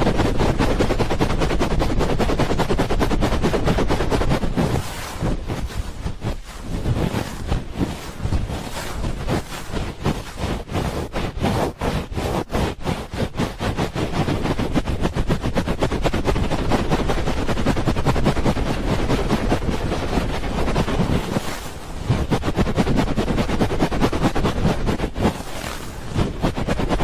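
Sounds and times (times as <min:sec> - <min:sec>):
hands rubbing microphone: 0:00.0 - 0:27.0.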